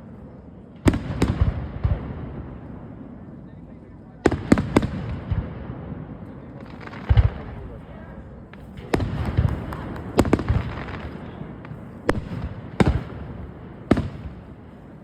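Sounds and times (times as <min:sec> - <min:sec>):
deep fireworks booms: 0:00.0 - 0:15.0
fireworks bangs: 0:00.0 - 0:15.0.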